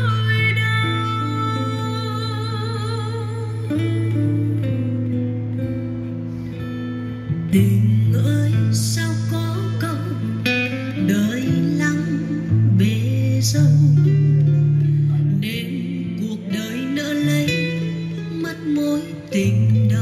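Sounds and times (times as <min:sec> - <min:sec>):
guitar music with singing: 0:00.0 - 0:20.0.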